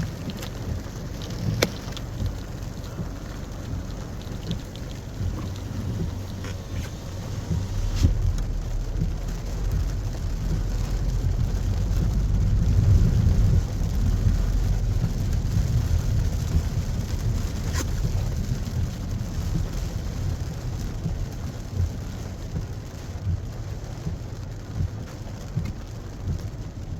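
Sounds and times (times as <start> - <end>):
heavy rain: 0.0 - 26.9
low vehicle rumble: 0.0 - 26.9.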